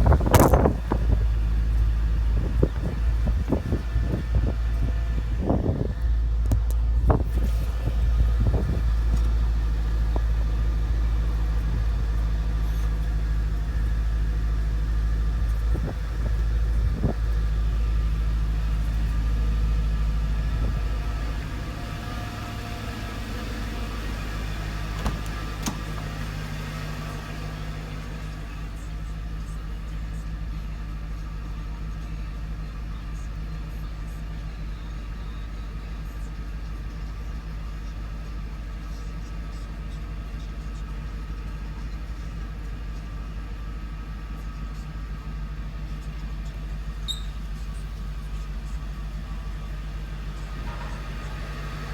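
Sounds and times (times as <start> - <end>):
car engine idling: 0.0 - 51.9.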